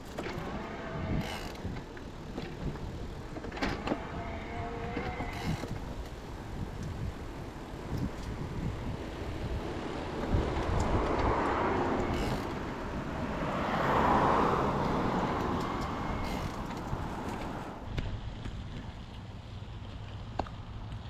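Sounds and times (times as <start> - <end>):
road vehicles passing: 0.0 - 21.0
wind rumble on microphone: 0.0 - 21.0.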